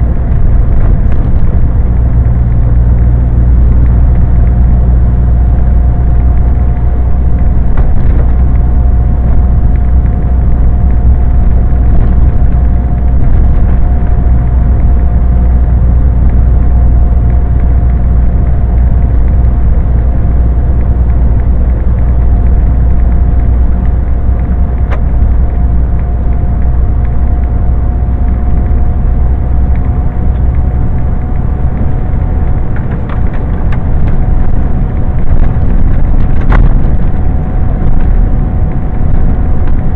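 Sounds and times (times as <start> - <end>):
lorry diesel engine droning: 0.0 - 39.9
thin constant whine: 0.0 - 39.9.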